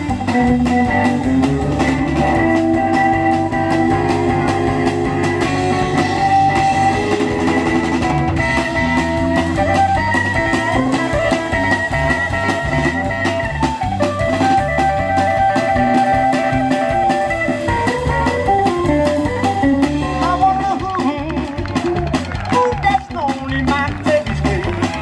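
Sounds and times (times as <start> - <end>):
drum kit beat: 0.0 - 25.0
guitar: 0.0 - 25.0
rock band playing instrumental: 0.0 - 25.0.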